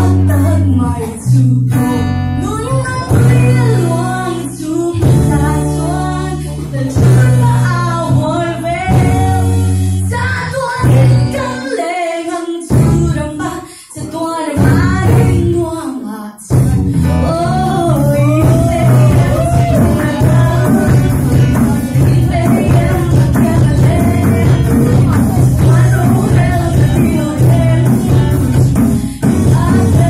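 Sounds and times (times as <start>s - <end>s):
live band playing: 0.0s - 12.0s, 12.6s - 15.6s, 16.4s - 30.0s
woman singing lead: 0.0s - 30.0s.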